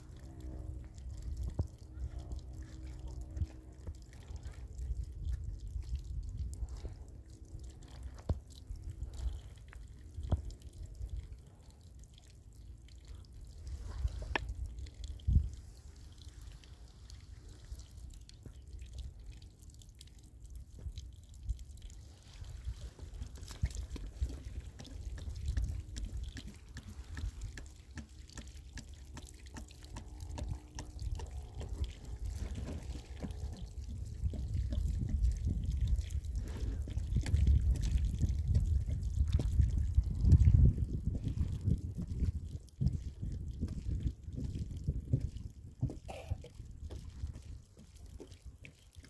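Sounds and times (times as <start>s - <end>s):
water trickling onto soil: 0.0s - 49.0s.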